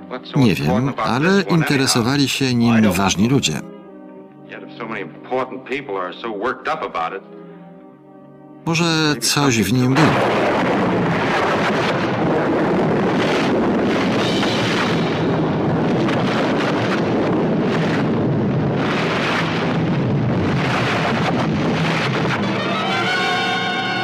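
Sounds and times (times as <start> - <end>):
music: 0.0 - 24.0.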